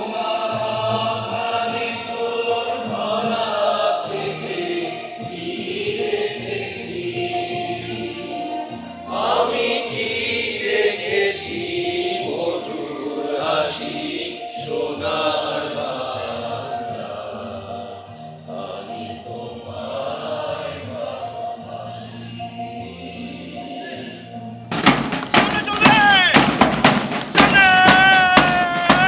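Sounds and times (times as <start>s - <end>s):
group singing in unison: 0.0s - 25.4s, 27.4s - 29.0s.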